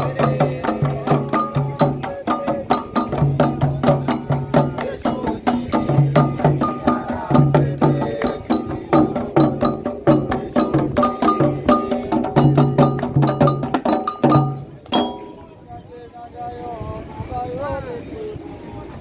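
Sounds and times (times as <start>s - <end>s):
hand drums fast rhythm: 0.0s - 15.4s.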